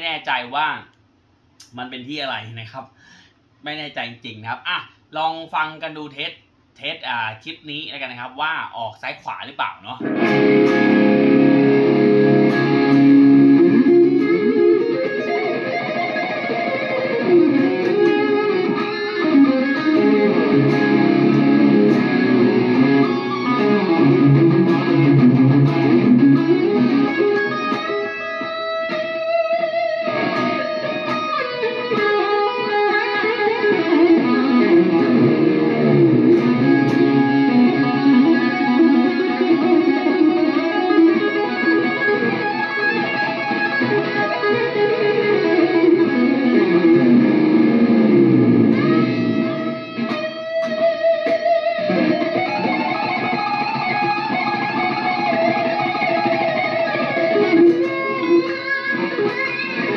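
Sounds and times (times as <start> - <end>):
electric guitar solo: 10.0 - 59.9.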